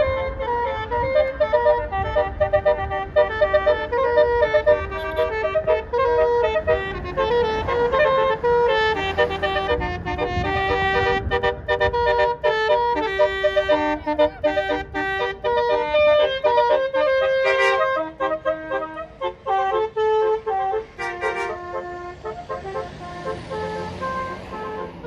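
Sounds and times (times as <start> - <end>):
air horn playing a tune: 0.0 - 25.0.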